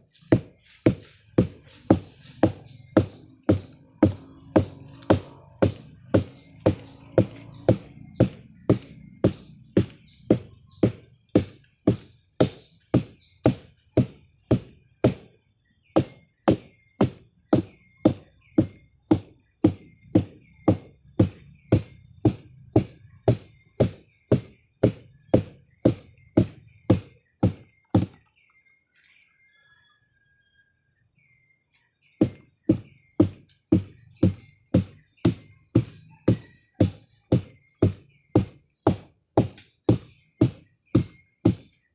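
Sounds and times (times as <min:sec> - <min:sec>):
rhythmic beating on plant stalk: 0:00.0 - 0:28.6, 0:31.8 - 0:41.9
insects droning: 0:00.0 - 0:41.9.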